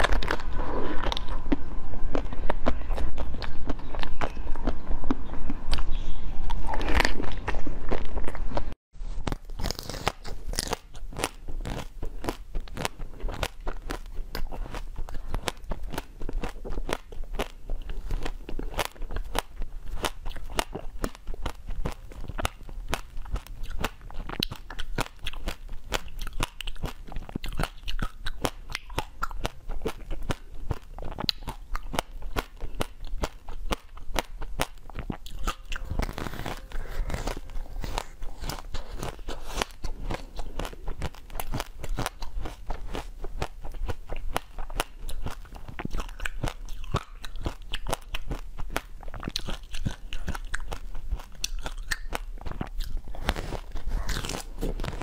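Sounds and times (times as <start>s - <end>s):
crunching frozen sweets: 0.0s - 55.0s.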